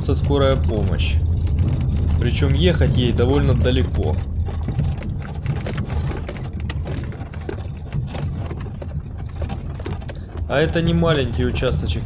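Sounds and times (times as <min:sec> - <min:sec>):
car knocks and rattles: 0:00.0 - 0:12.0
low rumble of engine and tyres: 0:00.0 - 0:12.0.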